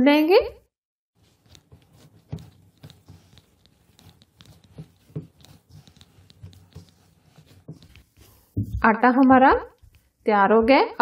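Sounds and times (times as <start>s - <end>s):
dough squishing: 1.2s - 11.0s.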